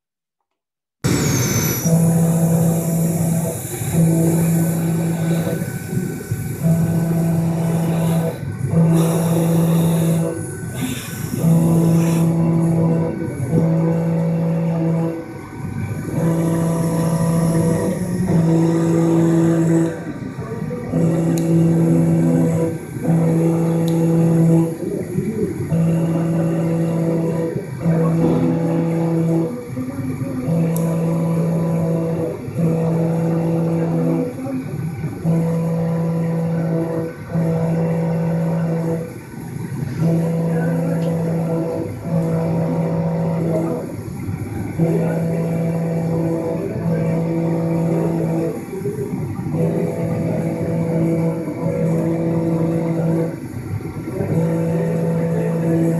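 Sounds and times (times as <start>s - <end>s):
milling machine cutting metal: 1.1s - 55.9s.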